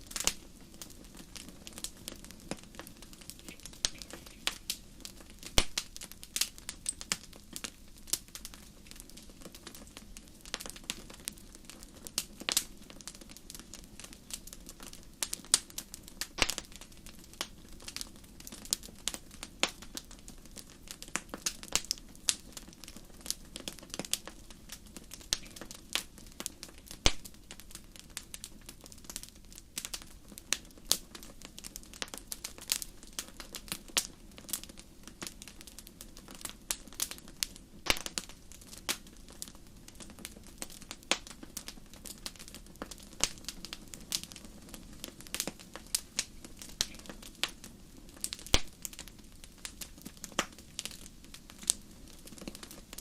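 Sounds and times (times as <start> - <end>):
fireplace fire crackling: 0.0 - 53.0.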